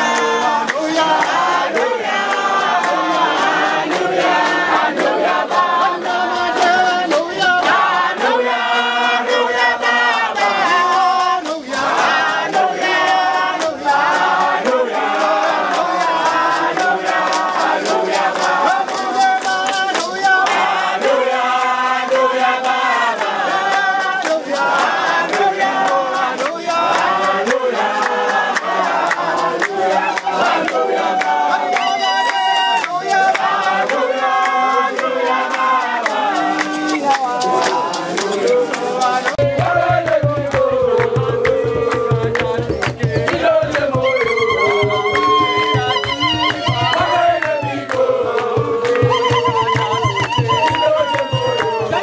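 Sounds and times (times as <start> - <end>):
crowd singing: 0.0 - 52.0
hand claps: 0.0 - 52.0.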